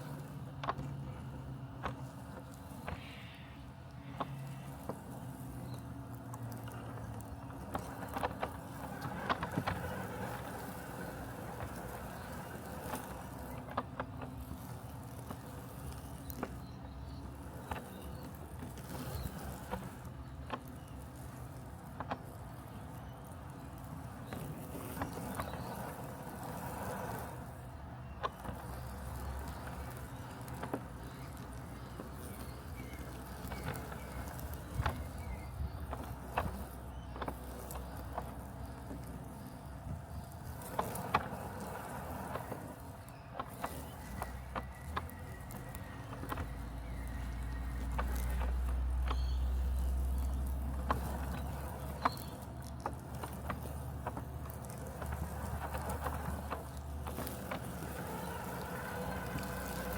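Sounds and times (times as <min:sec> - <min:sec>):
lawn mower humming: 0:00.0 - 0:59.9.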